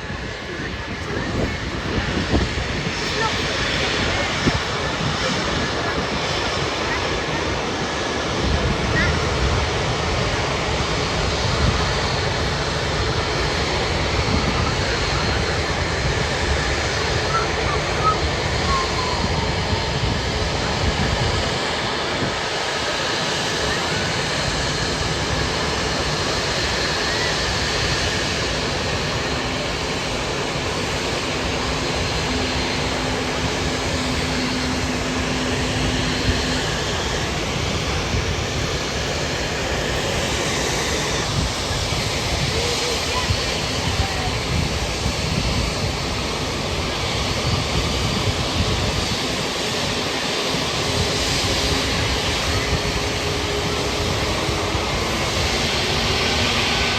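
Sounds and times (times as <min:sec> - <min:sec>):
jet engines rushing: 0:00.0 - 0:56.9.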